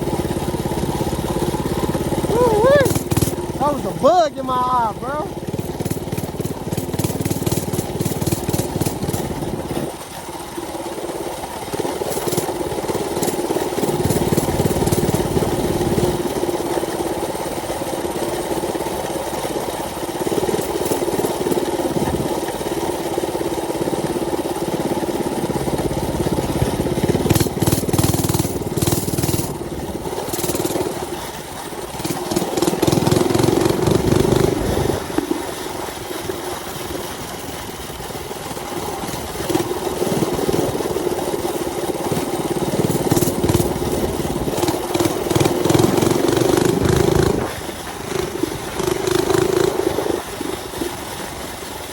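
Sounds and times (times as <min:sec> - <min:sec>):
mini bike engine revving: 0:00.0 - 0:51.9.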